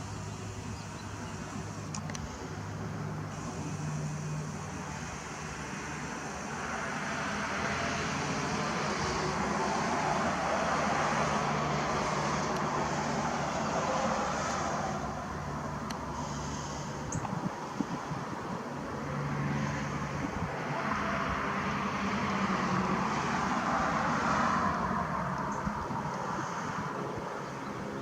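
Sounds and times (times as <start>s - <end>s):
passing vehicle rushing: 2.6s - 28.0s.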